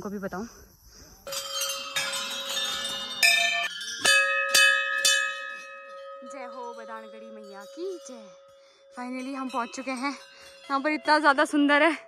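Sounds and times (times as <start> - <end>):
large temple bell ringing: 1.3 - 12.0.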